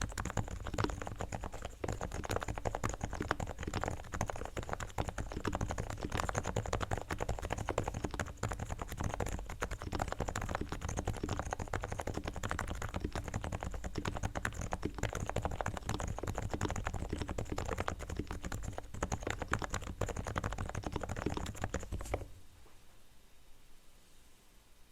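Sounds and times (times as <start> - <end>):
fast keyboard typing: 0.0 - 22.3.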